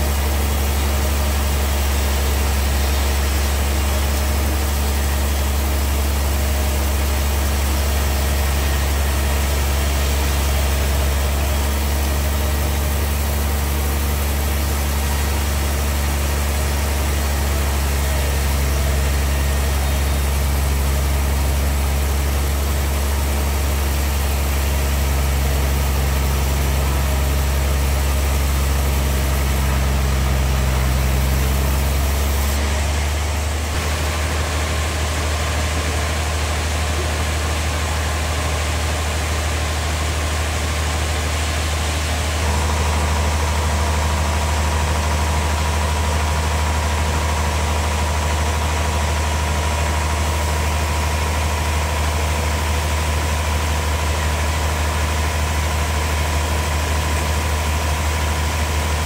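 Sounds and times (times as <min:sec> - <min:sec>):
band sawmill running: 0:00.0 - 0:59.0.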